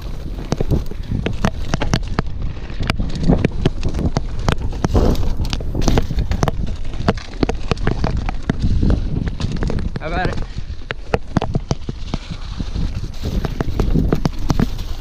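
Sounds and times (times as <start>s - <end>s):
bike knocks and rattles: 0.0s - 15.0s.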